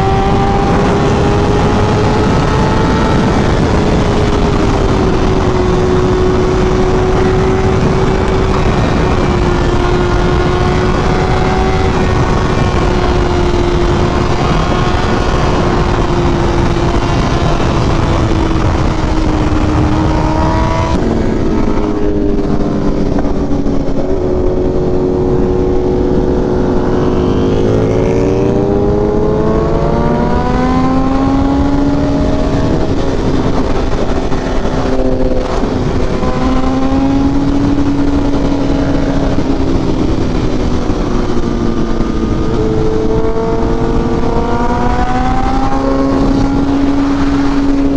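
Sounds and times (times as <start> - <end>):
motorcycle engine running: 0.0 - 47.9
wind rush over microphone: 0.0 - 47.9.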